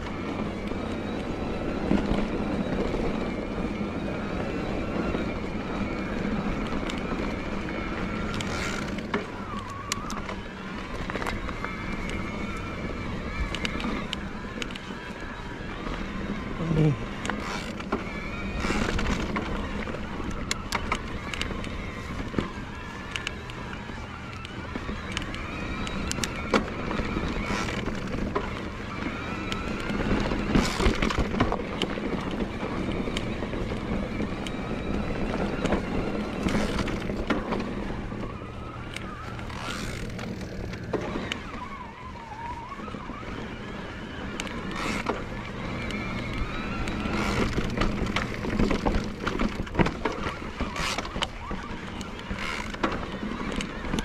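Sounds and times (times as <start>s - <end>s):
electric bike motor whining: 0.0s - 54.0s
tyre noise on dirt: 0.0s - 54.0s
bike clicks and knocks: 5.6s - 41.7s, 44.1s - 54.0s.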